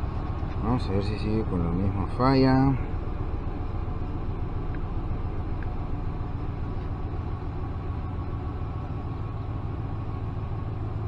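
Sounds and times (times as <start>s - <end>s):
engine idling low rumble: 0.0s - 11.0s.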